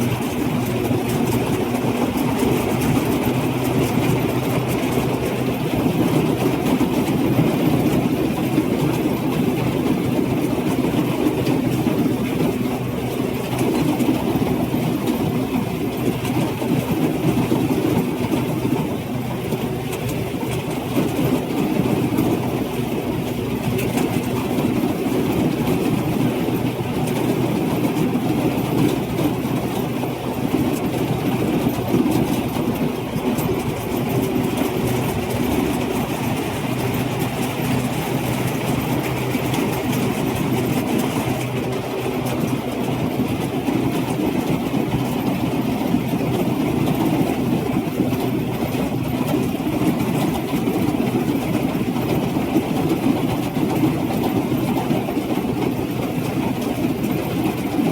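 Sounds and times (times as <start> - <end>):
combine harvester engine running: 0.0 - 57.9.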